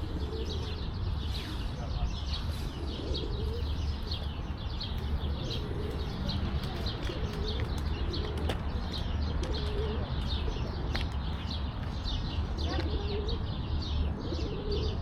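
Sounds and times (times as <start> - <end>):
pigeon cooing: 0.0 - 11.0, 12.6 - 15.0
small birds chirping: 0.0 - 15.0.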